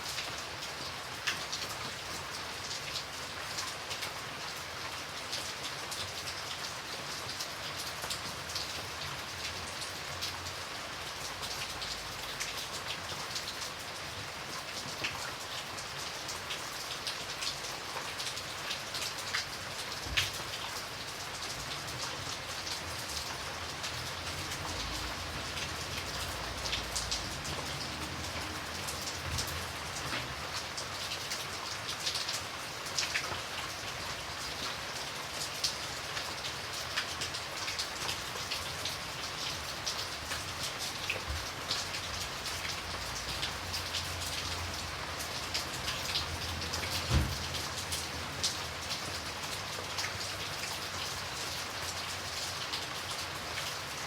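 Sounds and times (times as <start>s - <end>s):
steady rain falling: 0.0s - 54.0s
raindrops ticking on hard surface: 7.2s - 54.0s.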